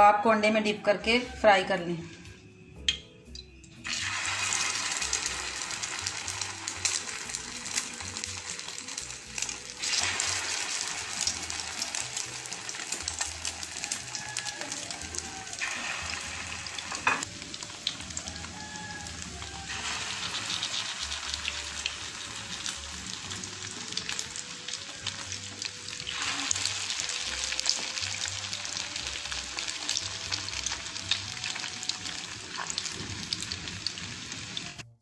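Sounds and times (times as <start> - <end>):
kebabs sizzling in oil: 3.4 - 35.0.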